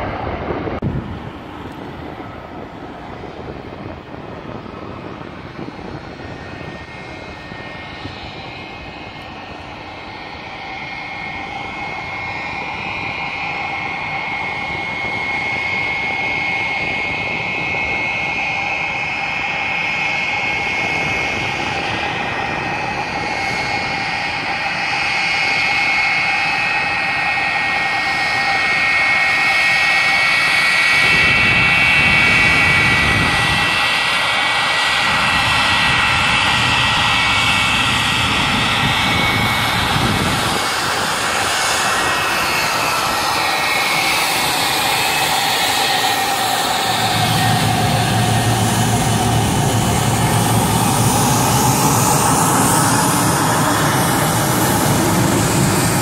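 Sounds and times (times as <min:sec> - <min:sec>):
jet engine whine and rumble: 0:00.0 - 0:56.0.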